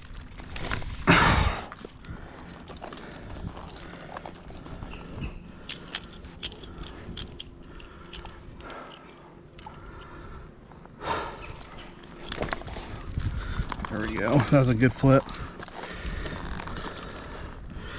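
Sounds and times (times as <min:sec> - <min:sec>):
person breathing hard: 0:01.1 - 0:14.5, 0:15.2 - 0:17.9.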